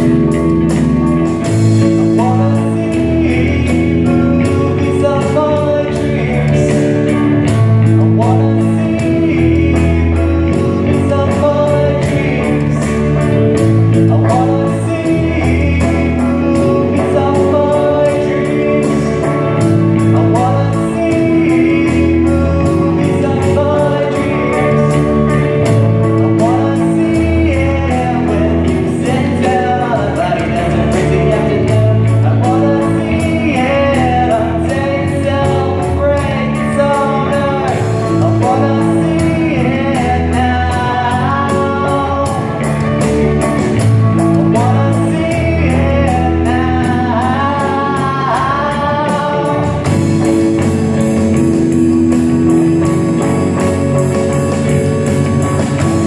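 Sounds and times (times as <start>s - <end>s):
bass guitar: 0.0s - 56.0s
electric guitar: 0.0s - 56.0s
keyboard: 0.0s - 56.0s.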